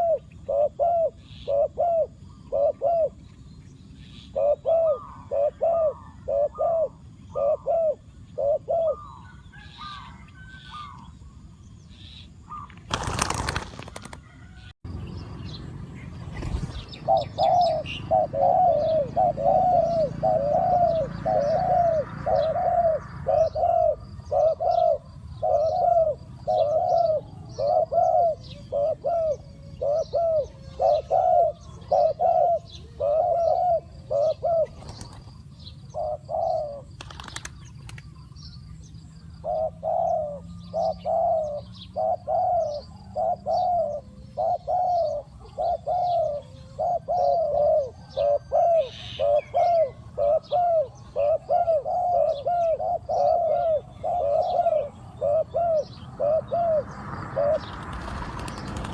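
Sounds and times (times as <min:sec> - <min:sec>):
dove cooing: 0:00.0 - 0:03.3, 0:03.9 - 0:11.1, 0:16.3 - 0:58.9
small birds chirping: 0:00.0 - 0:58.9.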